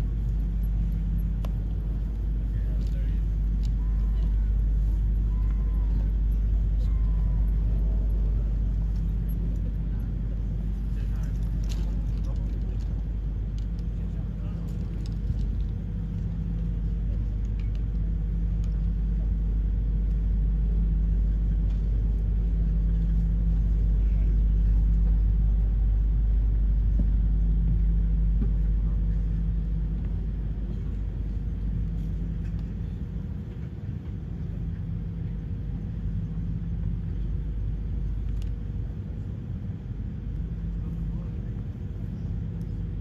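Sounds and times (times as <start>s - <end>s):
low engine rumble: 0.0s - 43.0s.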